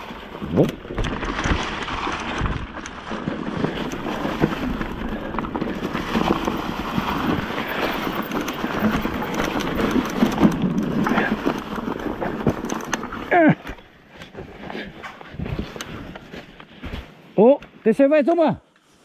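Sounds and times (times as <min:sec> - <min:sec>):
bike rattling: 0:00.0 - 0:17.2
bike tyres crunching on dirt: 0:00.0 - 0:18.0.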